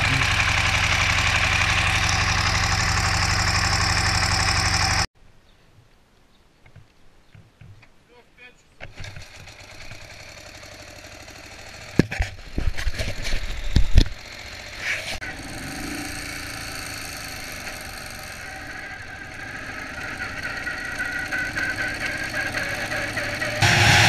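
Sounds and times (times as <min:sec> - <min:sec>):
motorcycle engine running: 0:00.0 - 0:05.1, 0:08.9 - 0:24.0.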